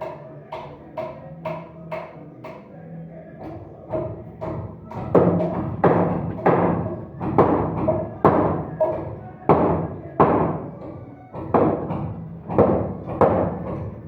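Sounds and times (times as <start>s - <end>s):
hammer striking wood: 0.0s - 2.6s, 3.4s - 14.0s.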